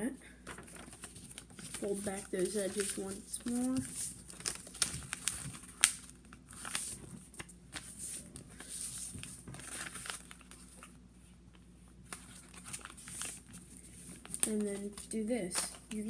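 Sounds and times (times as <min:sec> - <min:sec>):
paper rustling and crinkling: 0:00.4 - 0:11.0, 0:12.0 - 0:16.0.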